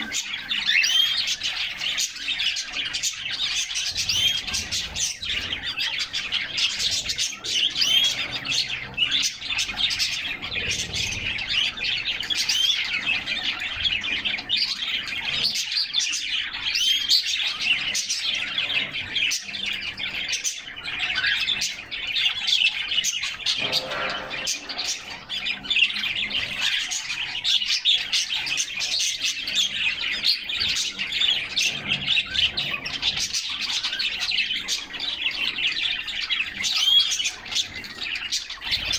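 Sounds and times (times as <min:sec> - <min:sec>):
canaries singing and chirping: 0:00.0 - 0:38.9.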